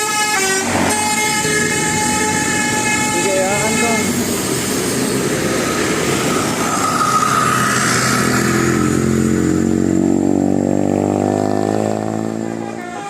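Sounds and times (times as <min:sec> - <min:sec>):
bus engine accelerating: 0:00.0 - 0:13.0
traffic noise: 0:00.0 - 0:13.0.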